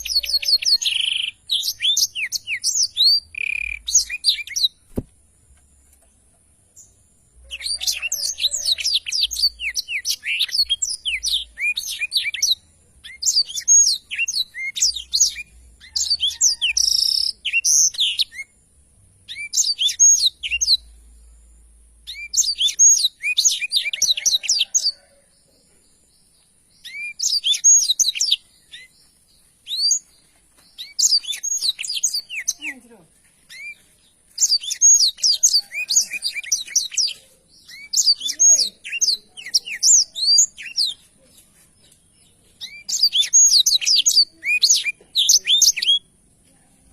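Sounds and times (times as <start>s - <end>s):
canary singing: 0.0s - 4.9s, 6.7s - 25.3s, 26.7s - 46.2s.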